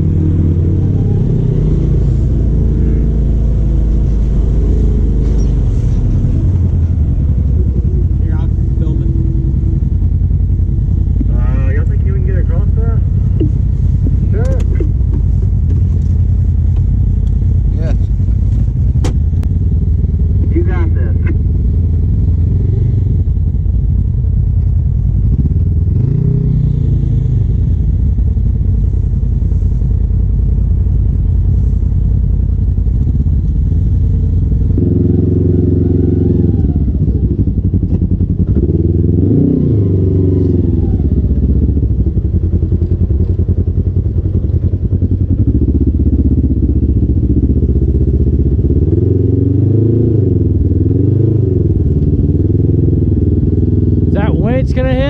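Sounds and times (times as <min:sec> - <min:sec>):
utility vehicle engine revving: 0:00.0 - 0:30.7, 0:32.7 - 0:55.0.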